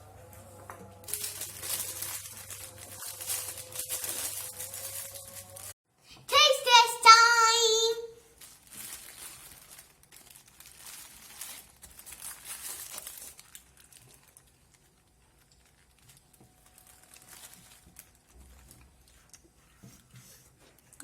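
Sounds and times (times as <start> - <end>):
paper crinkling and rustling: 0.2 - 5.8, 8.3 - 21.0.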